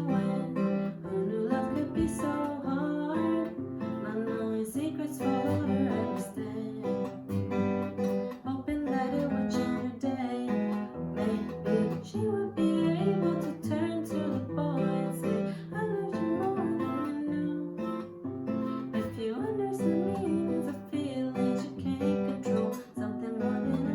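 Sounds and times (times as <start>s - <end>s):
person singing: 0.0s - 7.3s, 8.4s - 18.0s, 19.0s - 23.9s
acoustic guitar strumming: 0.0s - 23.9s.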